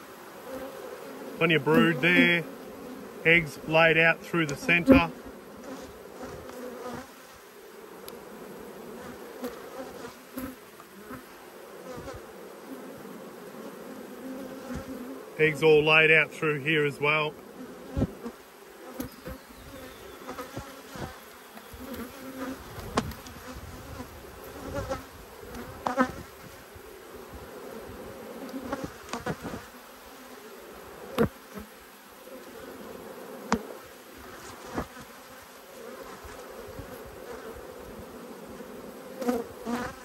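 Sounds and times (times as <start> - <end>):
bees humming: 0.0 - 40.0.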